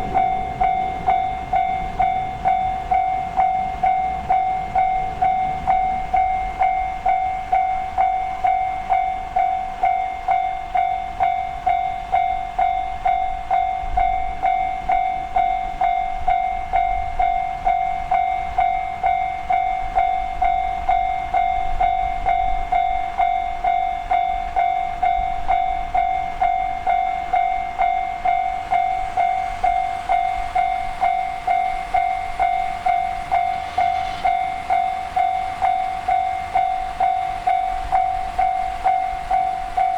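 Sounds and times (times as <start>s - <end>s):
crossing alarm bell ringing: 0.0s - 39.9s.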